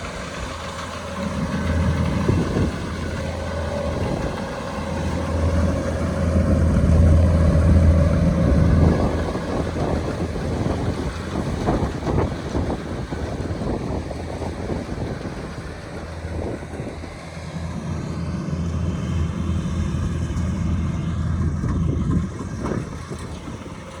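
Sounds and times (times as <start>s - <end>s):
combine harvester diesel engine: 0.0s - 24.0s.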